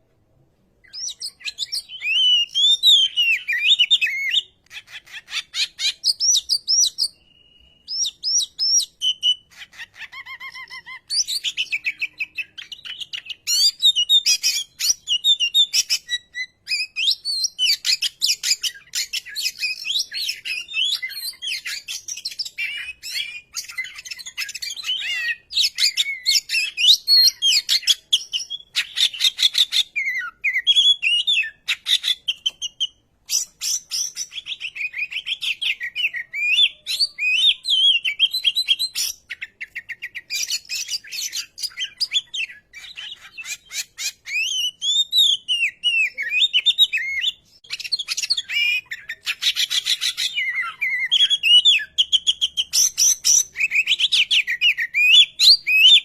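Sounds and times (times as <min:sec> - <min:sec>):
magpie-robin singing: 0:00.8 - 0:56.0.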